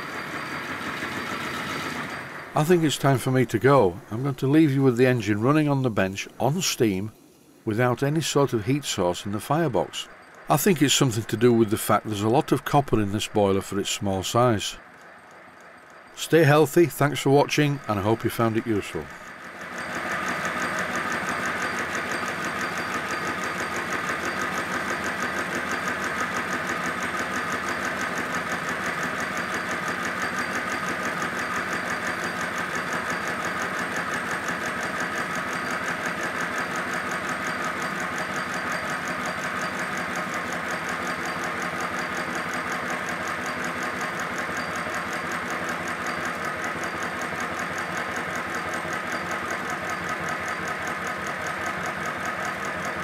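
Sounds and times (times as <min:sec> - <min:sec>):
model steam locomotive running: 0:00.0 - 0:53.0.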